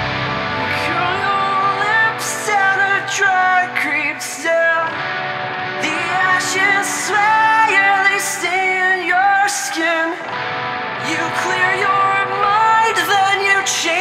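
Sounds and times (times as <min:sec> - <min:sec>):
person singing: 0:00.0 - 0:14.0
rock band playing: 0:00.0 - 0:14.0.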